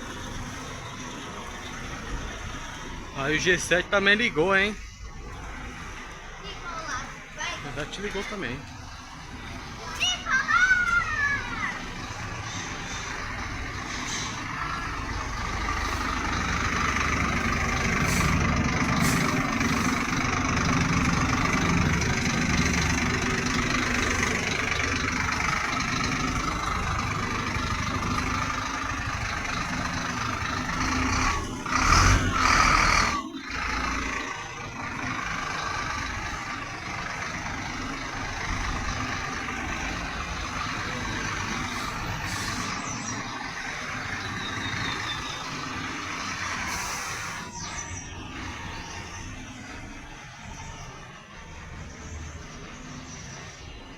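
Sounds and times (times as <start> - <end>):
diesel engines idling: 0.0 - 53.9.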